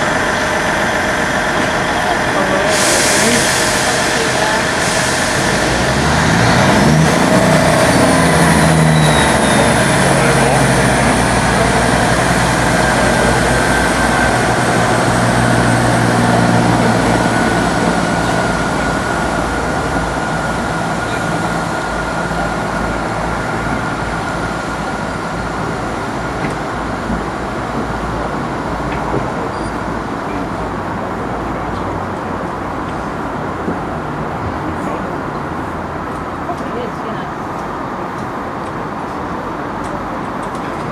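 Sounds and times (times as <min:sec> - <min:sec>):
passenger train passing: 0:00.0 - 0:40.9.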